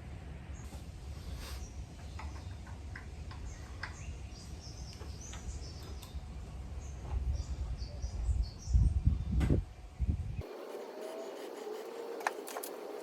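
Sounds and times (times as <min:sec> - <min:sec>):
small birds chirping: 0:00.5 - 0:13.0.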